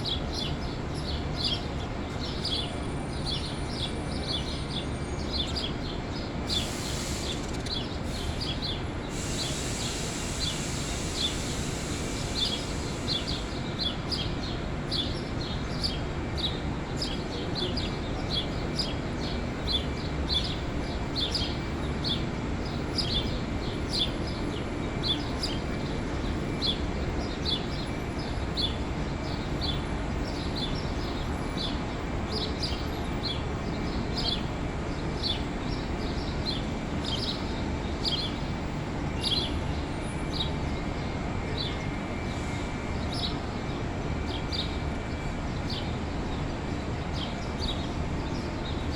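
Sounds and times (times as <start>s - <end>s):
steady background noise: 0.0s - 48.9s.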